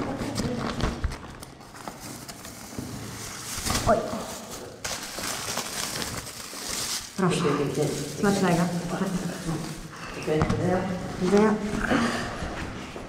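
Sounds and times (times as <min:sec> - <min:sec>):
plastic bag rustling: 0:00.0 - 0:13.0.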